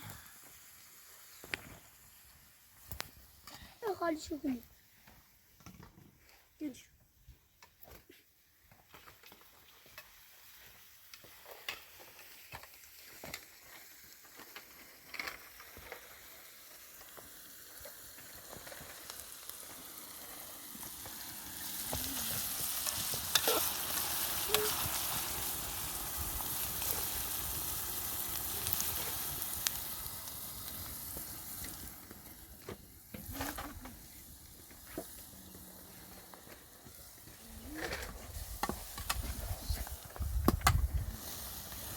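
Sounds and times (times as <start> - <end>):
food sizzling in hot oil: 0.0 - 4.2, 9.2 - 41.9.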